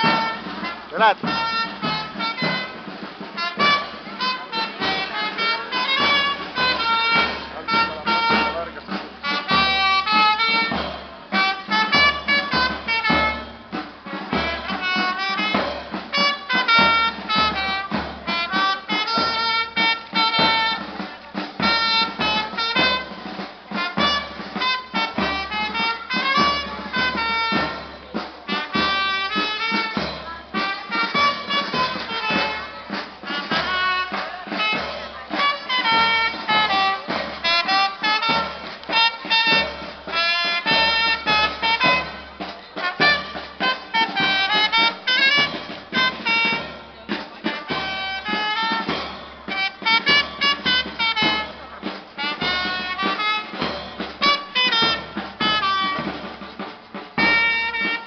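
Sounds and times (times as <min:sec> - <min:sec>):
horns playing melody: 0:00.0 - 0:58.0
steady drum beat: 0:00.0 - 0:58.0.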